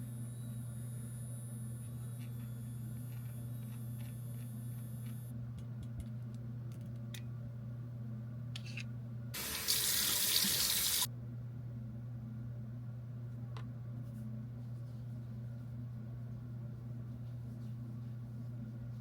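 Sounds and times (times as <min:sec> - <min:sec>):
steady low hum: 0:00.0 - 0:09.4, 0:10.8 - 0:19.0.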